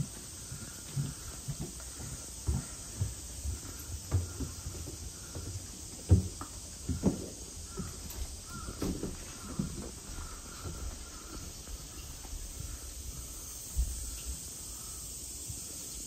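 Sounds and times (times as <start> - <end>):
footsteps on wooden floorboards: 0.0 - 14.3
faint calls: 0.0 - 16.0.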